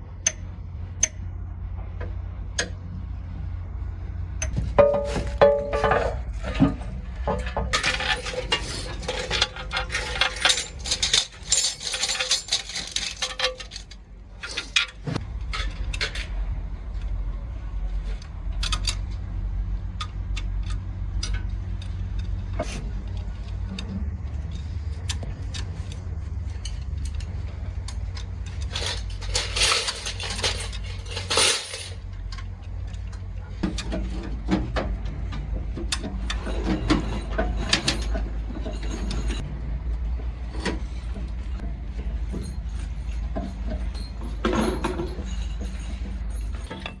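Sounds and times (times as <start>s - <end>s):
metal tools clinking and clattering: 4.4s - 16.4s, 18.0s - 19.2s, 20.0s - 34.9s, 35.8s - 39.4s, 40.5s - 47.0s.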